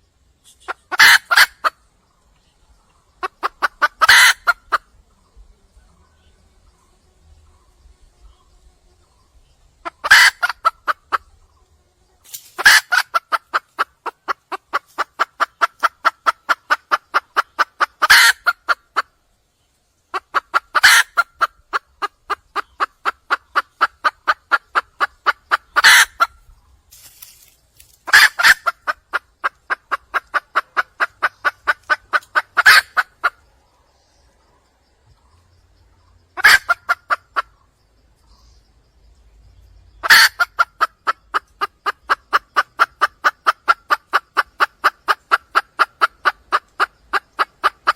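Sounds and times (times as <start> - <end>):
hen clucking rapidly: 0.5 - 2.0, 3.0 - 5.0, 9.7 - 11.7, 12.5 - 19.2, 20.0 - 38.4, 39.9 - 47.9.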